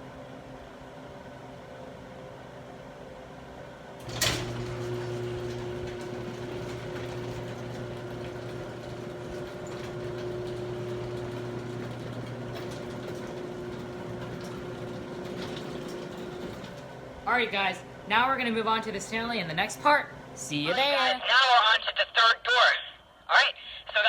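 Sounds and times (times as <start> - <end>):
mechanical hum: 0.0 - 23.9.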